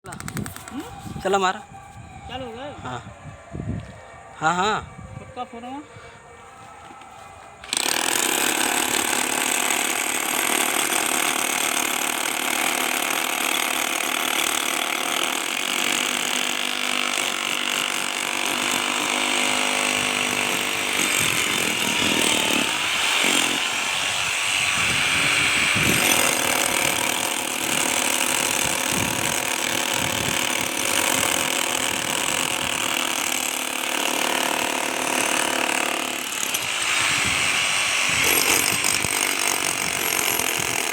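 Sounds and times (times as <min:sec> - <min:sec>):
concrete saw cutting: 0:07.6 - 0:40.9.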